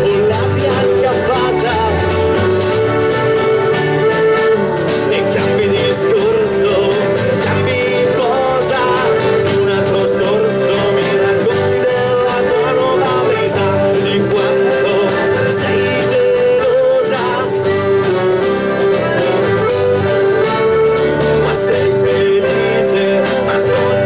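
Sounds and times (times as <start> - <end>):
band playing live: 0.0 - 24.0.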